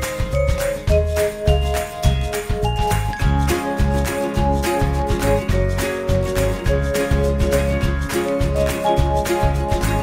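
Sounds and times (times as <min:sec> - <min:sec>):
background music with plucked guitar: 0:00.0 - 0:10.0.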